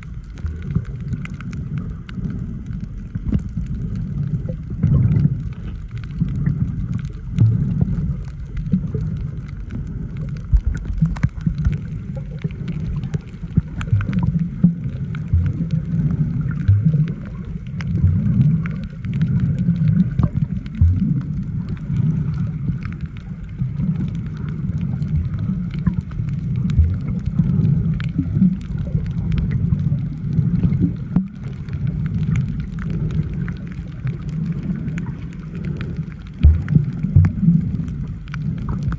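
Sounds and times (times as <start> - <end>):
faint clicks: 0.0 - 38.9
underwater rumble of moving water: 0.0 - 38.9.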